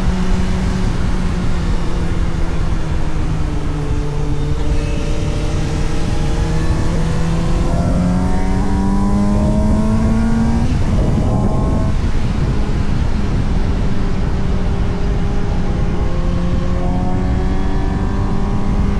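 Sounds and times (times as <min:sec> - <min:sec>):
motorcycle engine accelerating: 0:00.0 - 0:18.9
wind rush: 0:00.0 - 0:18.9.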